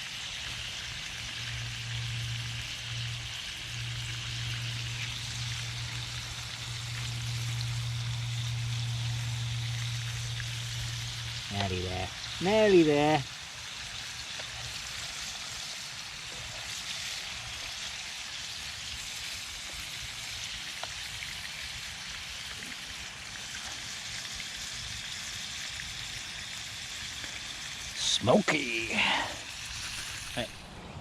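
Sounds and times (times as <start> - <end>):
meat sizzling over campfire: 0.0 - 30.9.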